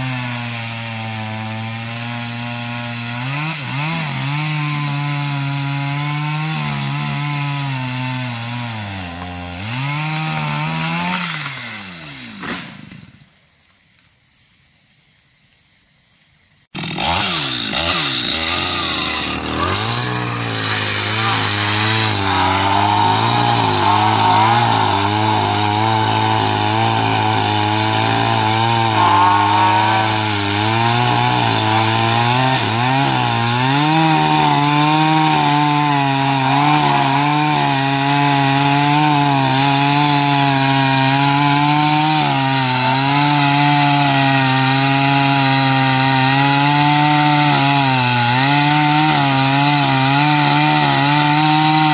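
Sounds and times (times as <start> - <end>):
chainsaw cutting wood: 0.0 - 13.3, 16.7 - 51.9.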